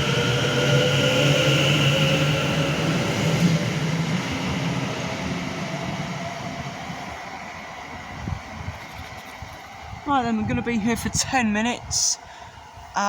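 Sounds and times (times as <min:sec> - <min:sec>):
electric train traction whine: 0:00.0 - 0:13.0.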